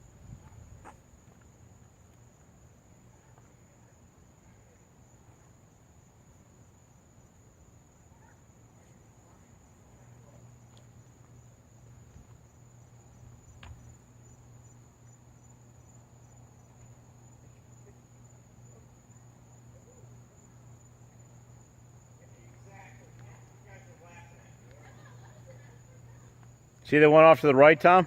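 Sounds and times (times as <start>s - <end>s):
crickets trilling: 0.0s - 28.0s
low steady hum: 0.0s - 28.0s.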